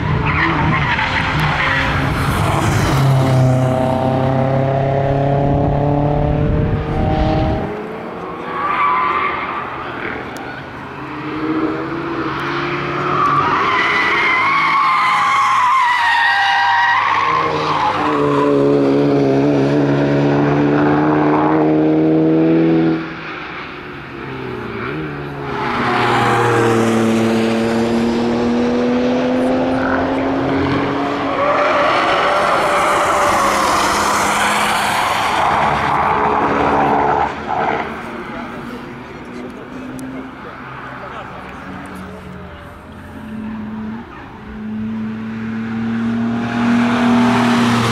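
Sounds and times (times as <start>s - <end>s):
car engines revving high: 0.0s - 47.9s.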